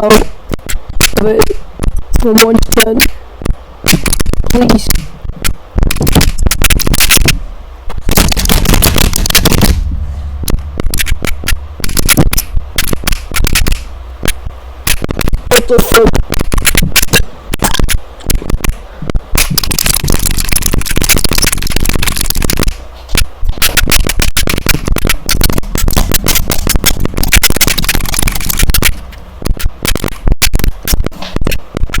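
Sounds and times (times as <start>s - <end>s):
rapid keyboard typing: 3.9s - 32.0s.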